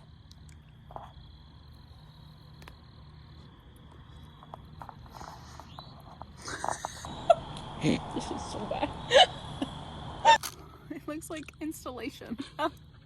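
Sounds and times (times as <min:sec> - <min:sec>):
crickets chirring: 0:00.0 - 0:13.0
low hum: 0:00.0 - 0:13.0.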